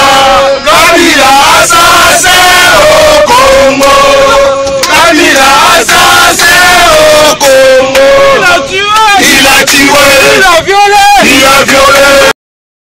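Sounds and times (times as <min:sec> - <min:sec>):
crowd of men chanting: 0:00.0 - 0:12.4.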